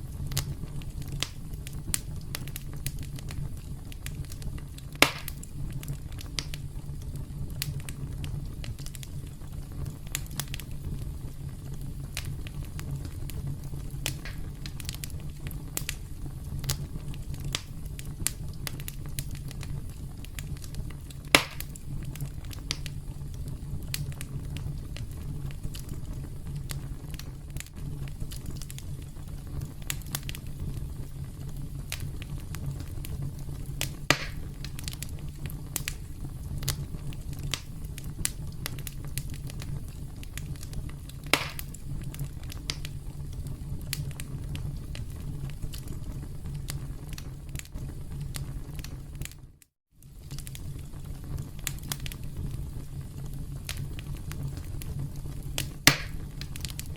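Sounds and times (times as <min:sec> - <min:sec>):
campfire crackling: 0:00.0 - 0:49.4, 0:50.0 - 0:56.9
fire pops: 0:00.0 - 0:56.9.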